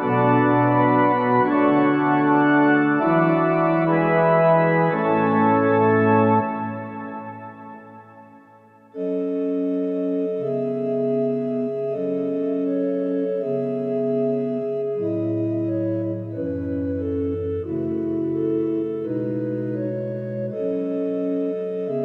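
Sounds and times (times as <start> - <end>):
electronic organ chords: 0.0 - 22.0.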